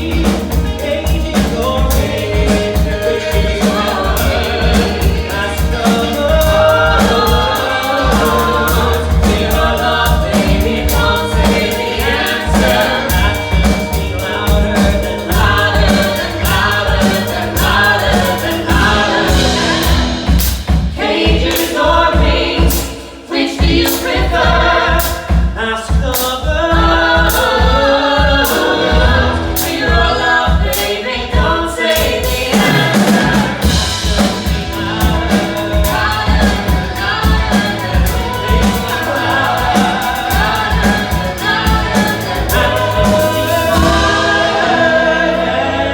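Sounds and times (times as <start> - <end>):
group singing with band: 0.0 - 45.9.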